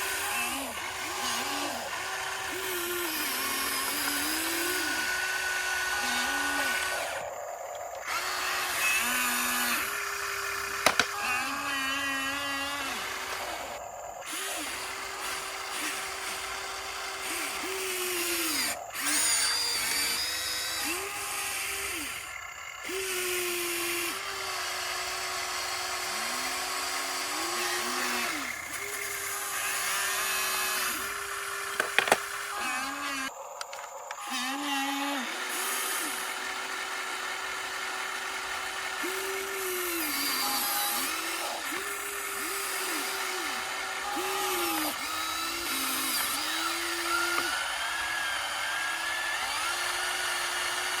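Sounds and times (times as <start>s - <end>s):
electric motors whining: 0.0s - 51.0s.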